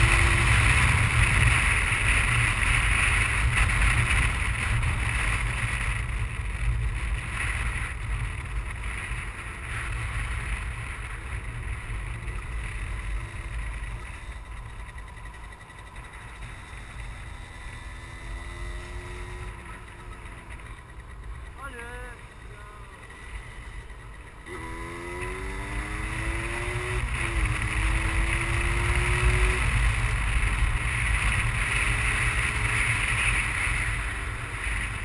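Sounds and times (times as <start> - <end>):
motorcycle engine: 0.0 - 35.0.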